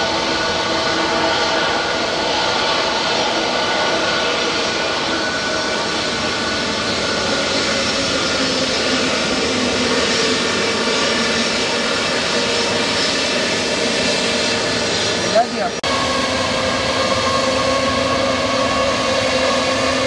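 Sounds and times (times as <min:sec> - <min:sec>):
jet engines rushing with whine: 0:00.0 - 0:20.0.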